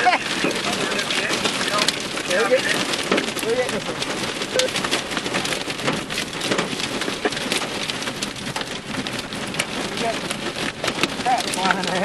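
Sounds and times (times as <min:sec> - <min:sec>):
heavy rain on car windshield: 0:00.0 - 0:12.0.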